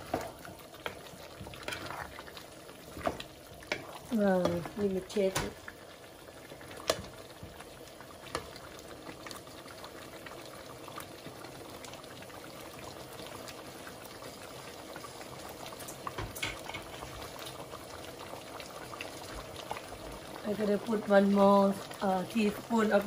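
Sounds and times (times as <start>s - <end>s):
sauce bubbling in a pot: 0.0s - 23.0s.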